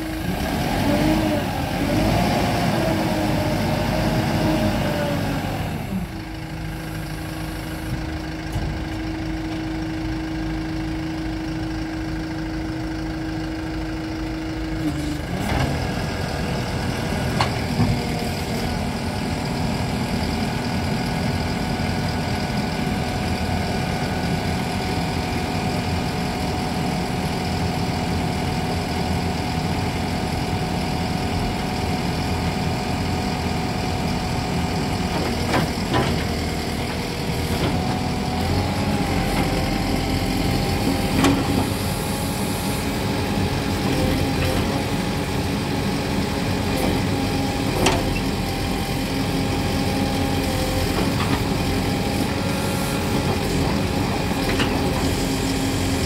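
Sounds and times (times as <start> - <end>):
backhoe loader engine idling: 0.0 - 56.0.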